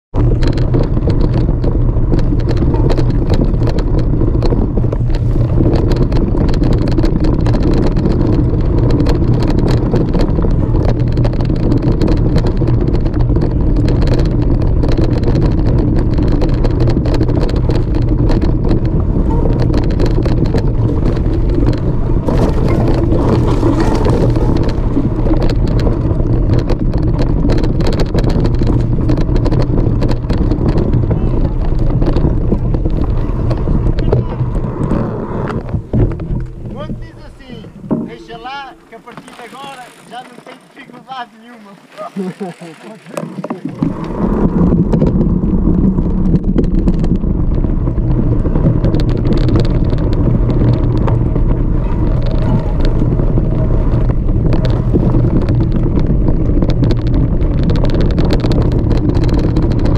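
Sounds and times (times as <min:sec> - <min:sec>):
wind rumble on microphone: 0:00.1 - 0:39.0, 0:43.0 - 0:59.9.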